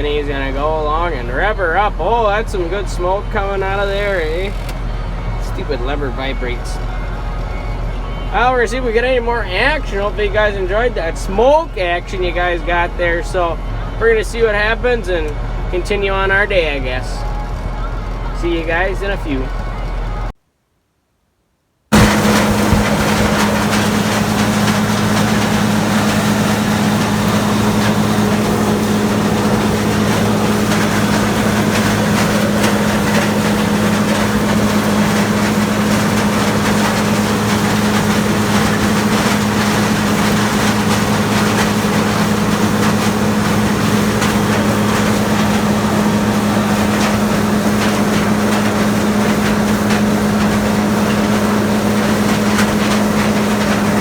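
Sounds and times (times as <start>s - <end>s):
farm machine engine droning: 0.0s - 20.3s, 21.9s - 54.0s.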